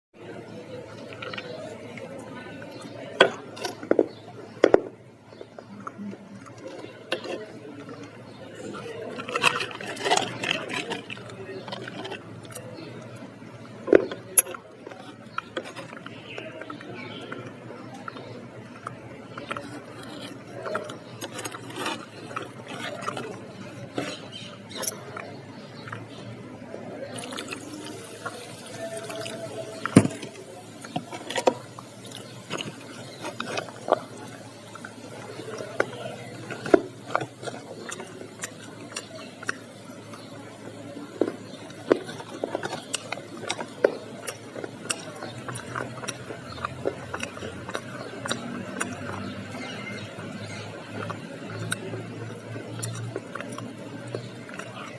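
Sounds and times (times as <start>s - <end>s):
crunching and chewing food: 0.2s - 54.9s.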